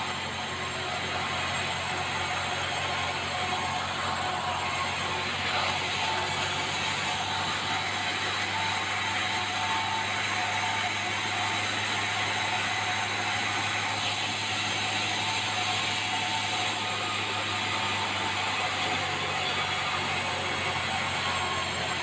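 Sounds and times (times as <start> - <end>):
hissing mechanical noise: 0.0 - 22.0.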